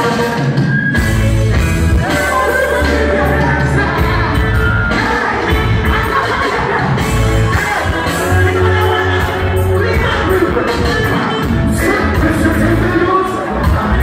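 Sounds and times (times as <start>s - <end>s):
man singing into a microphone: 0.0s - 14.0s
reggae backing track with heavy bass: 0.0s - 14.0s.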